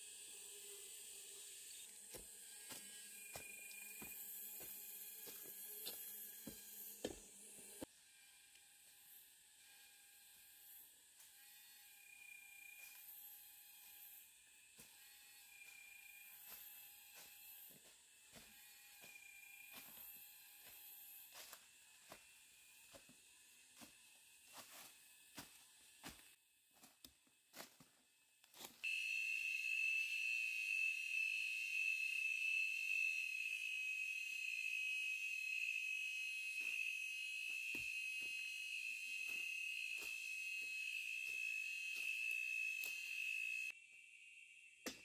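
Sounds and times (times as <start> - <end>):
high insect drone: 0.0 - 7.9, 8.9 - 26.2, 28.6 - 44.8.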